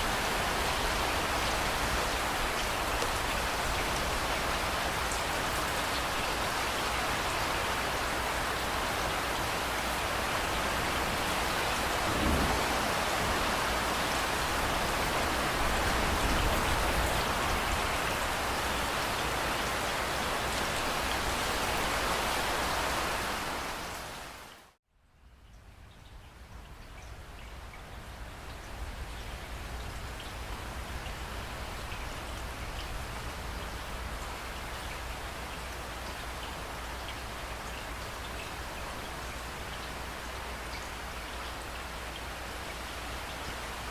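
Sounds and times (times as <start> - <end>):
heavy rainfall: 0.0 - 24.8, 25.6 - 43.9.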